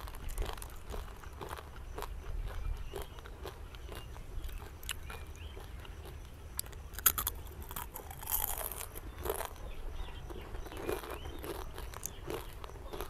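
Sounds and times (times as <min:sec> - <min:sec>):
chips being crunched and chewed: 0:00.0 - 0:09.6, 0:10.3 - 0:13.0.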